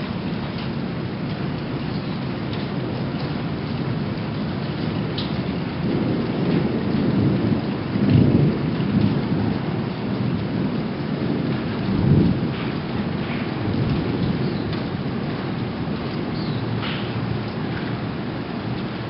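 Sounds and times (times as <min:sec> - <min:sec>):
rain hissing: 0:00.0 - 0:19.0
thunder rumbling: 0:02.5 - 0:19.0.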